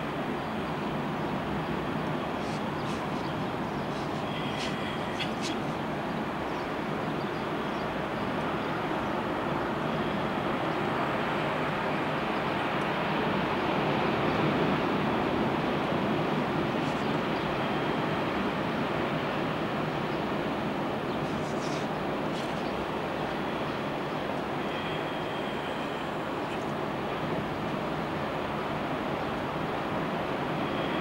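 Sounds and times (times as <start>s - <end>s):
wind: 0.0s - 31.0s.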